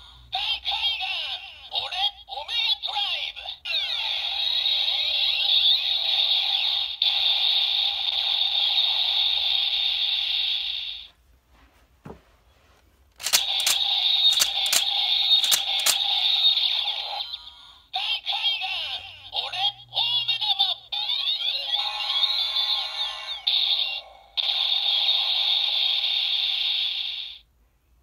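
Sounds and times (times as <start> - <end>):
toy belt electronic sound effects: 0.5 - 11.1, 13.2 - 27.4.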